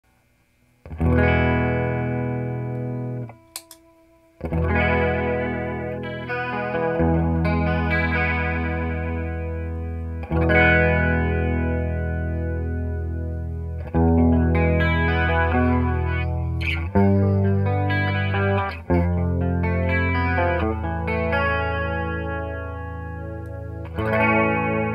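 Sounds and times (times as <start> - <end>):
guitar chords with chorus effect: 0.8 - 24.9.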